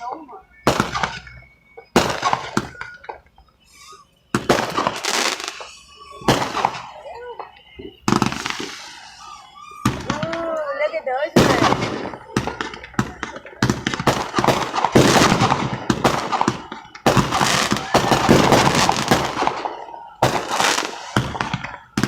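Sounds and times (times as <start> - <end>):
fireworks popping and crackling: 0.0 - 22.0.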